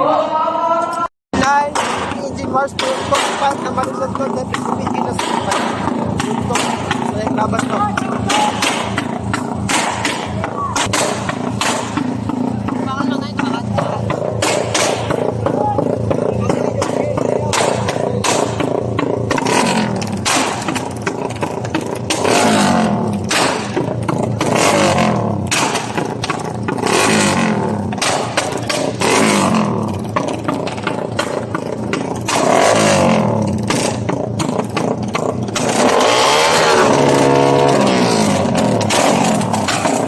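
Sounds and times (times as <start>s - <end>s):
motorcycle engine revving: 1.4s - 40.0s.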